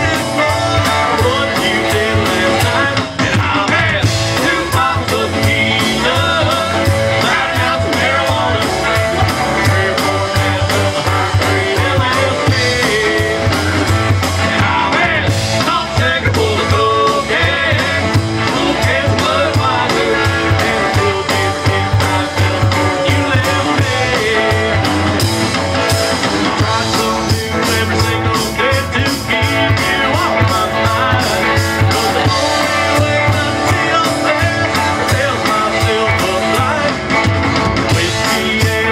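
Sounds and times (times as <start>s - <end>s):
live rock band playing: 0.0s - 38.9s
man singing: 0.0s - 38.9s.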